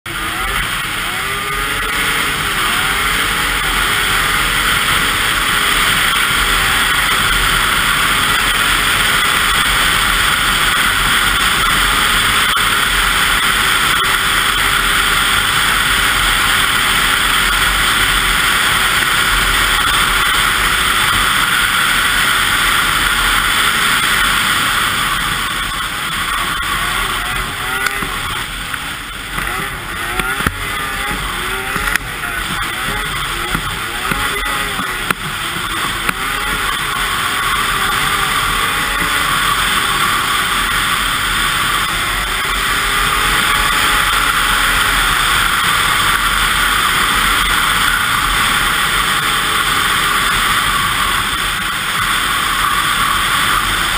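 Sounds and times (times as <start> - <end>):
snowmobile engine running: 0.0 - 53.9.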